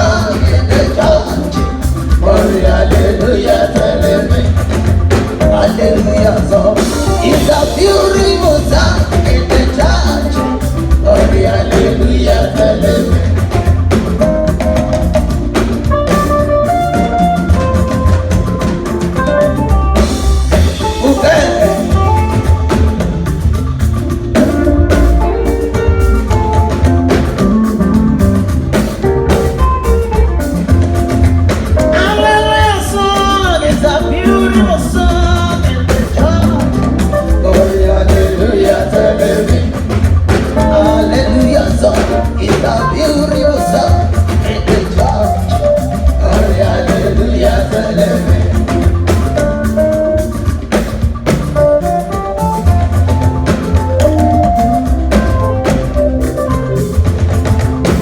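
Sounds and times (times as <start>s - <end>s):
gospel band with singing: 0.0s - 58.0s.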